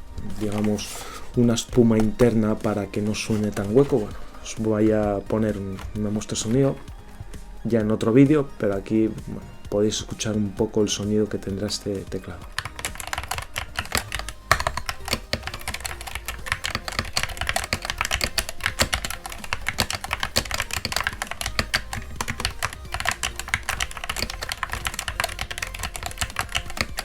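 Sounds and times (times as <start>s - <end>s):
keyboard typing: 0.0s - 7.0s, 10.2s - 27.0s.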